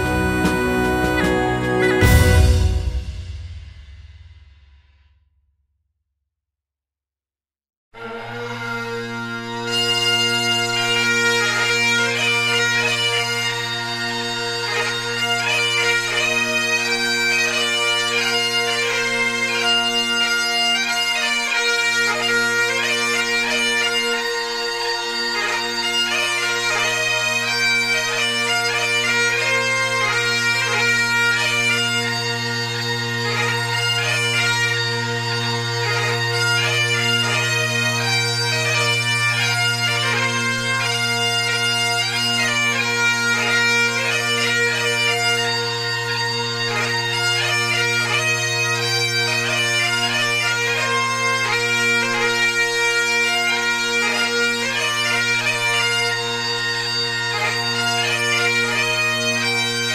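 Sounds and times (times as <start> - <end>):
bagpipe music: 0.0 - 4.4, 8.0 - 59.9.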